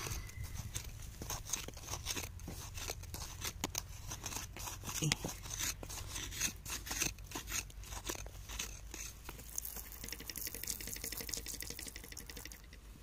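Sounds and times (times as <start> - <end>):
metal digging tool scraping: 0.0 - 11.1.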